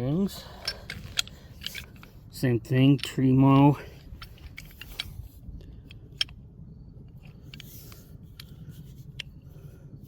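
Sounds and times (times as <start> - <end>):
metal clicks of pipe wrenches: 0.0 - 6.4, 7.0 - 9.4
faint steady hum: 0.0 - 10.0.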